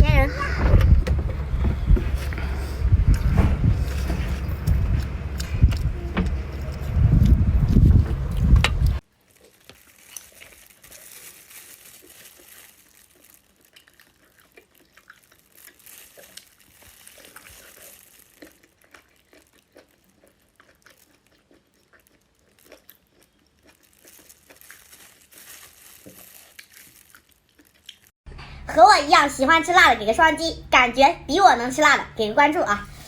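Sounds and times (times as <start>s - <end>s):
wet chewing: 0.2s - 28.2s.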